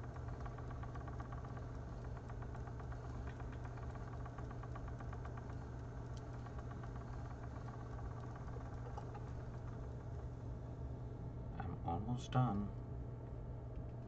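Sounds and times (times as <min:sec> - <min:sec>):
electric spinning wheel motor humming: 0:00.0 - 0:11.5.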